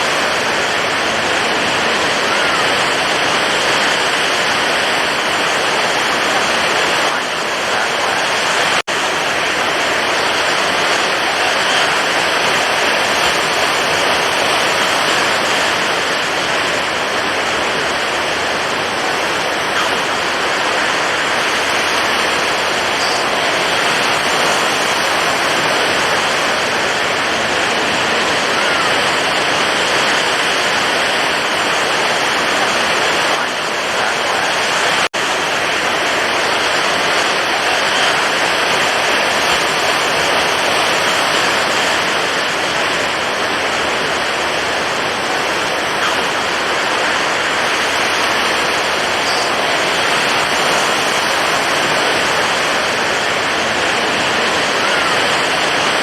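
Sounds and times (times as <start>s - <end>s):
stormy ocean surf roaring: 0.0s - 56.0s.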